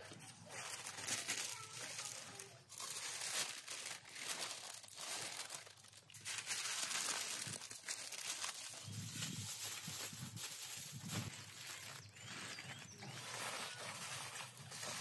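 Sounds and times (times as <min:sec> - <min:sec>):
parchment paper crinkling: 0:00.0 - 0:15.0.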